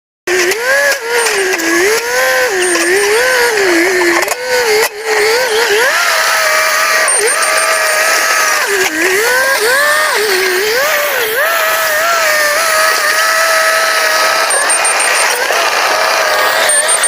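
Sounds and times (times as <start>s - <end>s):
bulldozer engine labouring: 0.3s - 17.0s.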